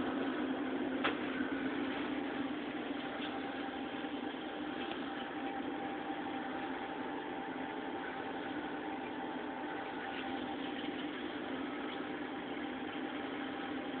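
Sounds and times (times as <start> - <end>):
aquarium pumps humming: 0.0 - 14.0
circulating water: 0.0 - 14.0
faint constant whine: 0.0 - 14.0.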